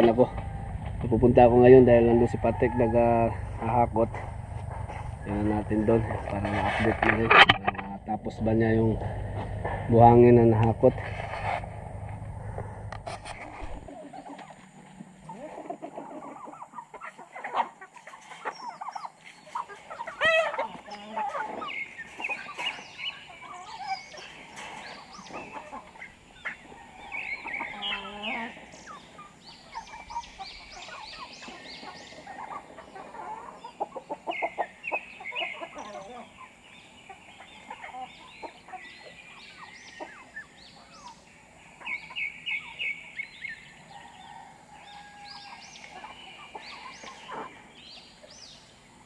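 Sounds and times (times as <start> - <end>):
chickens clucking and calling: 0.0 - 49.0.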